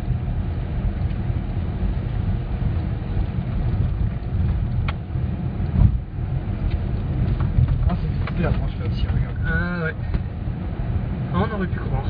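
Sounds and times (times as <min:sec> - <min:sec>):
car driving on rough road: 0:00.0 - 0:12.0.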